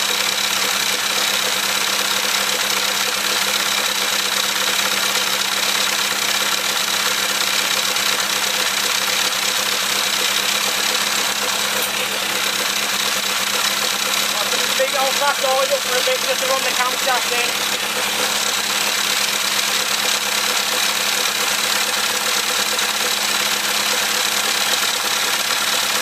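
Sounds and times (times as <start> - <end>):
car engine running at fast idle: 0.0 - 26.0.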